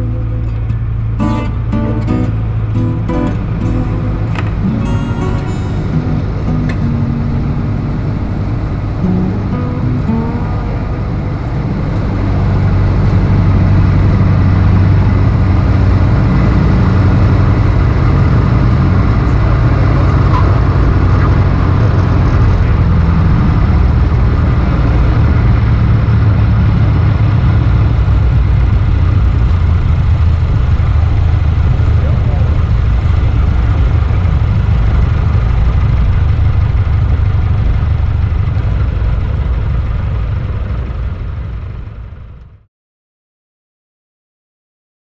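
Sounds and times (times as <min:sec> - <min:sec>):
airplane engine drone from cabin: 0:00.0 - 0:42.7.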